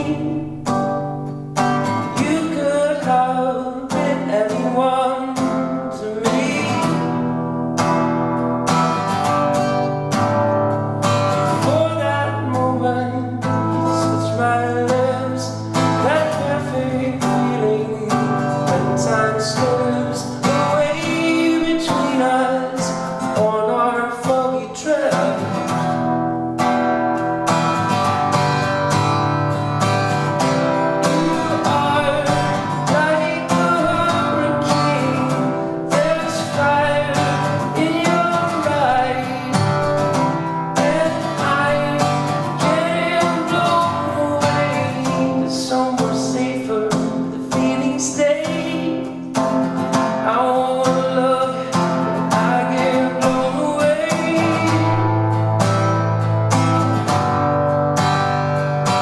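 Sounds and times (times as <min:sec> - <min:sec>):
strummed acoustic guitar: 0:00.0 - 0:59.0.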